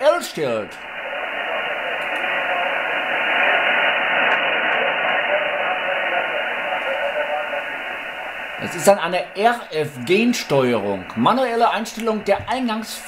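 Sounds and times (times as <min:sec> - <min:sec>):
radio band noise hiss: 0:00.0 - 0:13.0
weak radio sideband signal: 0:00.0 - 0:13.0.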